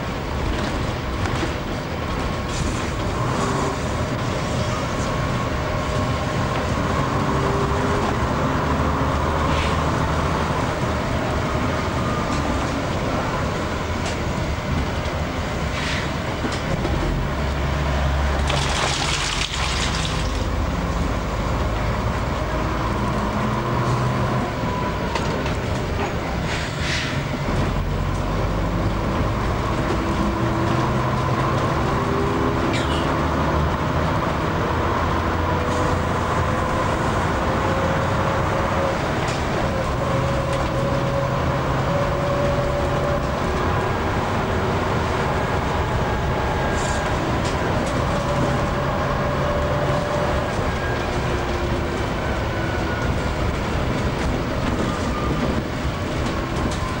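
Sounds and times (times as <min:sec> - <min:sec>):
bus body rattling: 0:00.0 - 0:57.0
bus engine running: 0:00.0 - 0:57.0.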